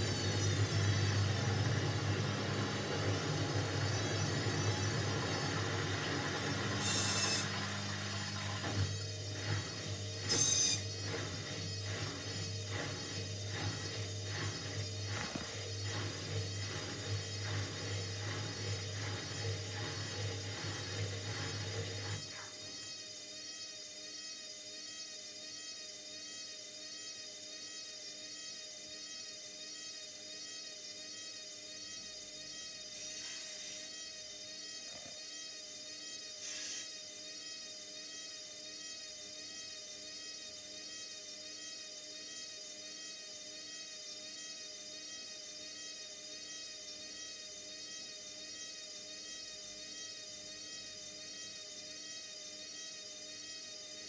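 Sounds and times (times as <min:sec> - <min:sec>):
washing machine motor whining: 0:00.0 - 0:54.0.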